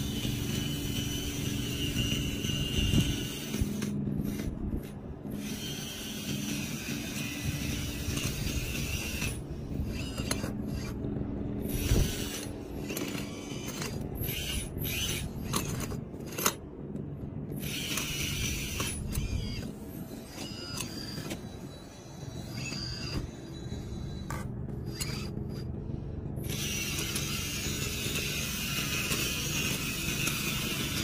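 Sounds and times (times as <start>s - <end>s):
gear and track clatter: 0.0s - 31.0s
hydraulic pump whining: 0.0s - 31.0s.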